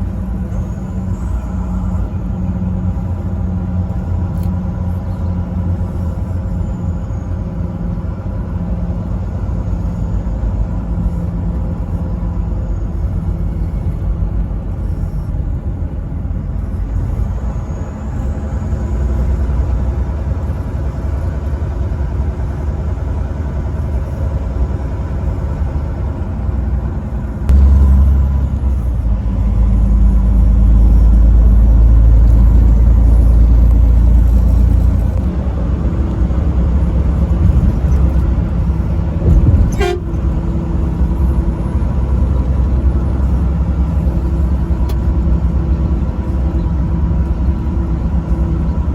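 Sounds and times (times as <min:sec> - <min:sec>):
diesel truck engine droning: 0:00.0 - 0:48.9
road rumble: 0:00.0 - 0:48.9.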